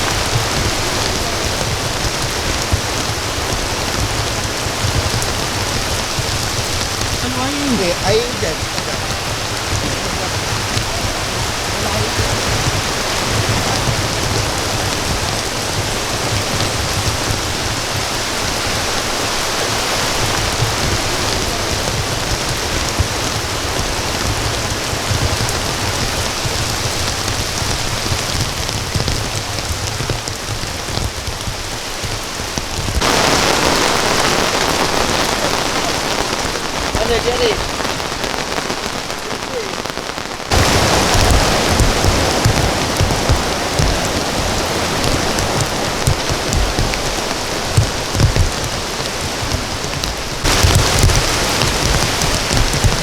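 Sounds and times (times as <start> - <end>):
rain falling steadily: 0.0 - 53.0.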